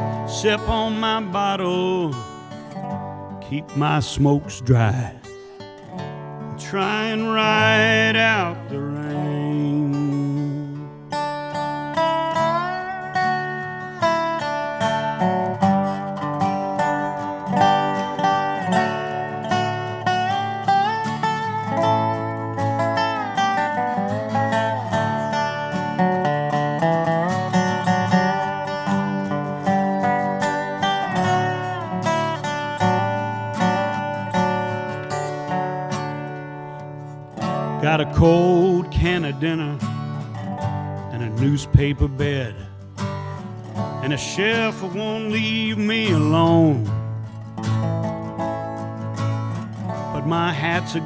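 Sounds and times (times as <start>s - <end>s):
acoustic guitar: 0.0s - 51.0s
slide resonator guitar: 0.0s - 51.0s.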